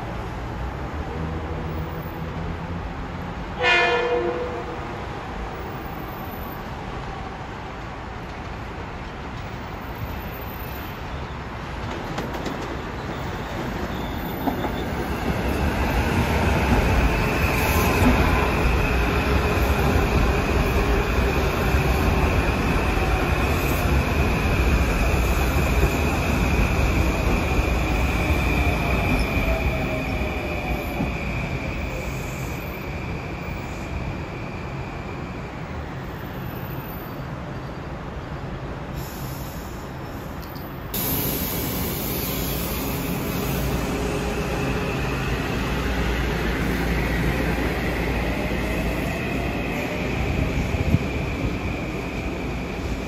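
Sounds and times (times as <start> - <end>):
train wheels rumbling on rail: 6.9 - 37.0, 38.6 - 53.0.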